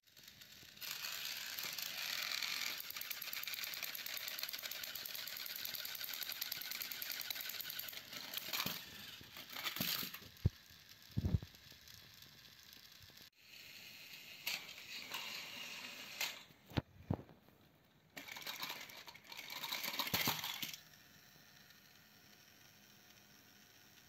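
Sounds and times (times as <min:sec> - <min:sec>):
toy train motors whirring: 0:00.0 - 0:17.3, 0:18.1 - 0:24.0.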